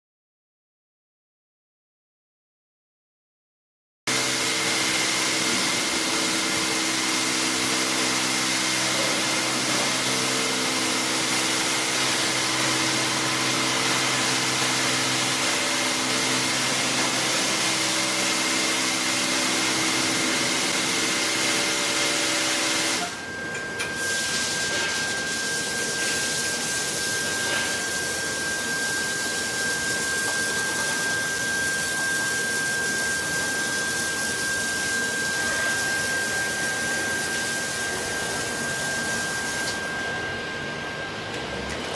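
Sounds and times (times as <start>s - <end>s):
pump whine: 4.1s - 41.9s.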